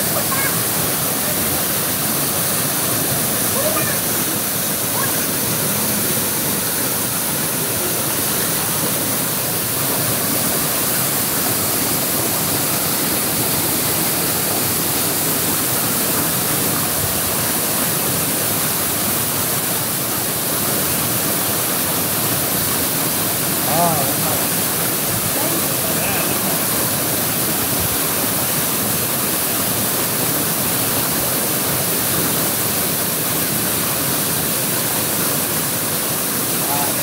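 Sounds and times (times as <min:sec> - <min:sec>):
waterfall splashing over rocks: 0:00.0 - 0:37.0.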